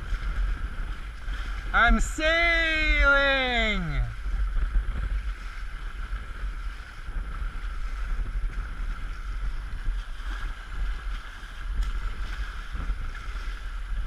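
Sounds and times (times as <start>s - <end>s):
water rushing past boat: 0.0s - 14.0s
wind buffeting microphone: 0.0s - 14.0s.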